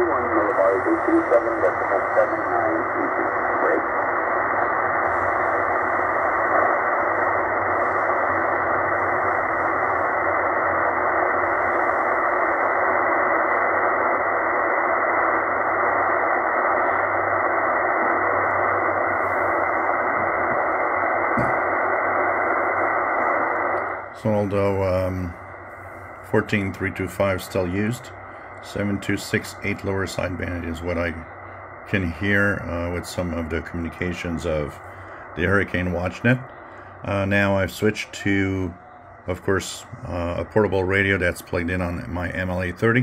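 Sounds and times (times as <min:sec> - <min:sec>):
radio static: 0:00.0 - 0:43.0.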